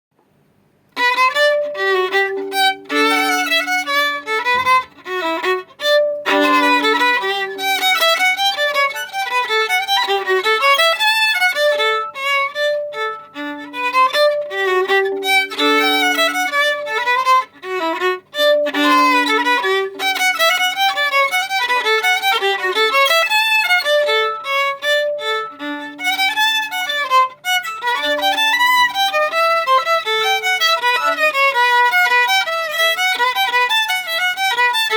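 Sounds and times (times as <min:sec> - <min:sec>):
solo violin playing: 0:00.9 - 0:34.9.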